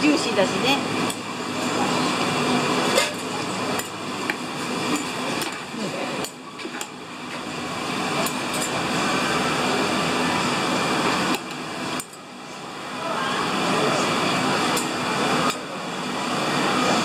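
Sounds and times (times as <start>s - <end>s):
market background noise: 0.0s - 17.0s.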